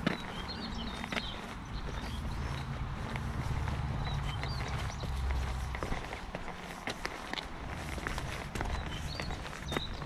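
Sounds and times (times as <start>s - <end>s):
footsteps walking: 0.0s - 10.0s
small birds chirping: 0.0s - 10.0s.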